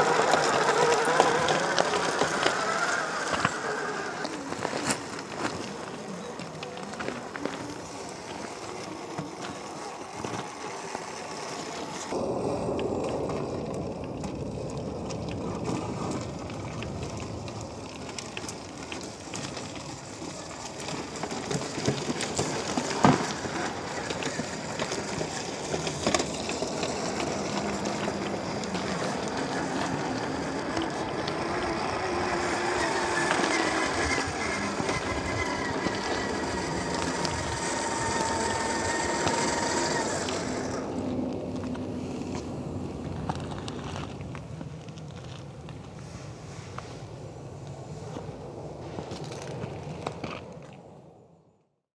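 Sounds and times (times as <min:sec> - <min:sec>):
rc car electric motors: 0:00.0 - 0:45.4
tyres over dirt and rock: 0:00.0 - 0:51.0.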